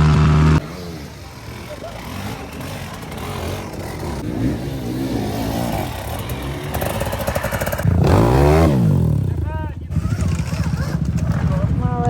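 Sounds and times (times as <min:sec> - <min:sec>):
off-road motorcycle engine revving: 0:00.0 - 0:12.0.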